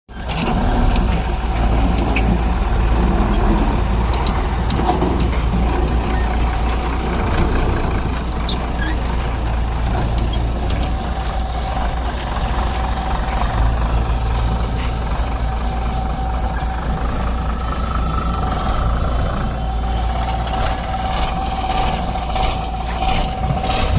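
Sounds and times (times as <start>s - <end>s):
heavy diesel engine running: 0.1s - 23.9s.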